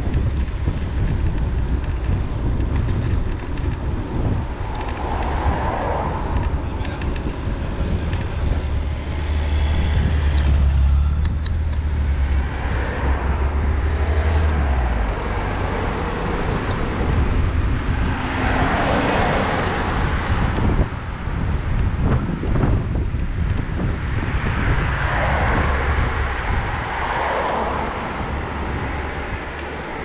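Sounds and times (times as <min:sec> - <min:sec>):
engine rumble: 0:00.0 - 0:30.0
tyre and road noise: 0:00.0 - 0:30.0.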